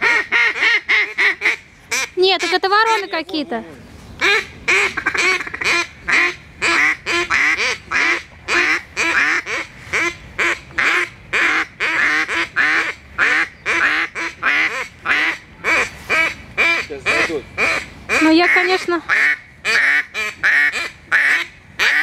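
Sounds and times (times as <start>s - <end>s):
duck call quacks: 0.0s - 3.2s, 4.2s - 22.0s.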